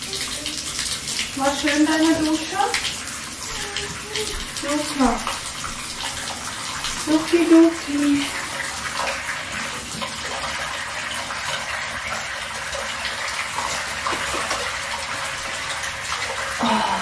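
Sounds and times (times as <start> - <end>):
water running into bathtub: 0.0 - 17.0.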